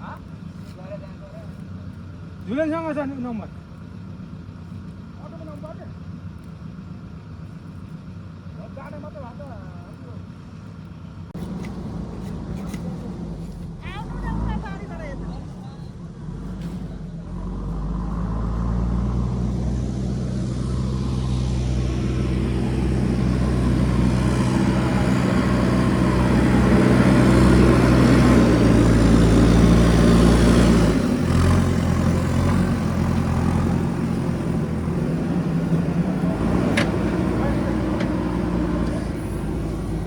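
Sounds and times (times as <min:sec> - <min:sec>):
diesel engine working hard: 0:00.0 - 0:40.0.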